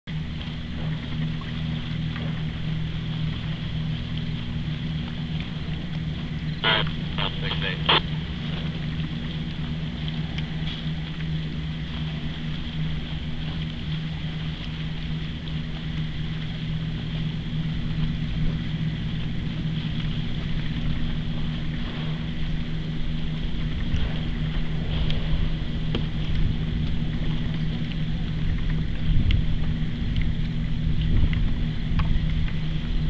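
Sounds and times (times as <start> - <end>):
low mechanical hum: 0.1 - 33.0.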